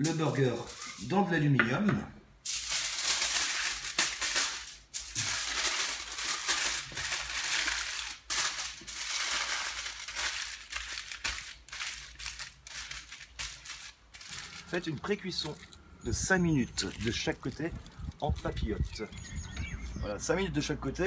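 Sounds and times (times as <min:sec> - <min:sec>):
aluminium foil crinkling: 0:00.0 - 0:01.2, 0:02.4 - 0:15.8, 0:16.4 - 0:19.5.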